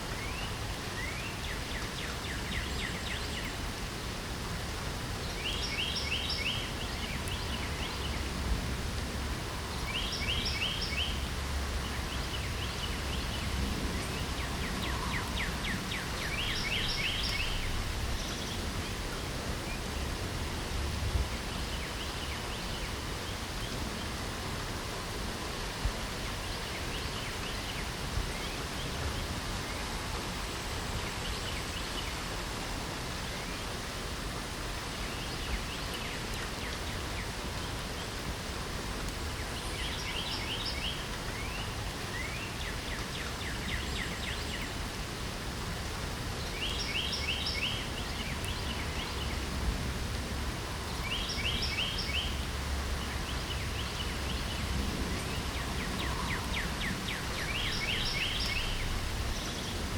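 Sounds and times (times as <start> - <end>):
songbird singing: 0.0 - 32.4, 33.1 - 59.9
rain hiss: 0.0 - 59.9.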